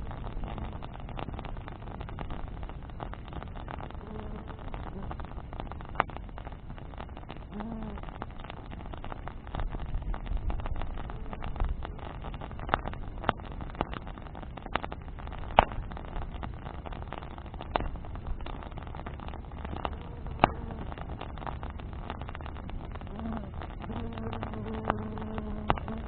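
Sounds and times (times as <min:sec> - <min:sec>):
bonfire crackling: 0:00.0 - 0:26.0
low fire rumble: 0:00.0 - 0:26.0
sharp fire pops: 0:00.0 - 0:26.0.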